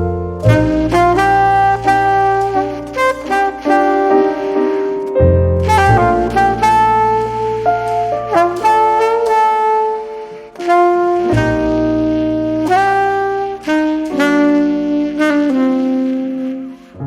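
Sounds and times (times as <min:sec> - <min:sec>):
piano: 0:00.0 - 0:17.0
saxophone slow melody: 0:00.0 - 0:17.0.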